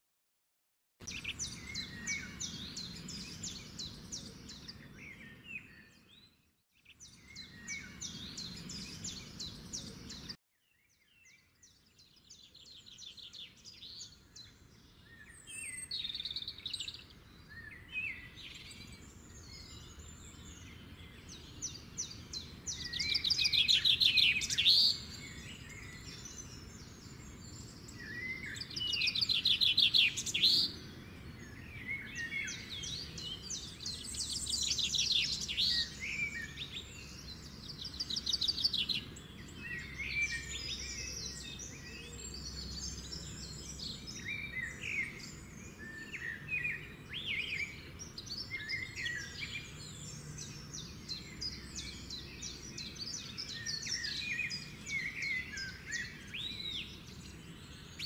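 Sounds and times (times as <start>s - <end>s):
birds chirping and trilling: 1.0s - 58.0s.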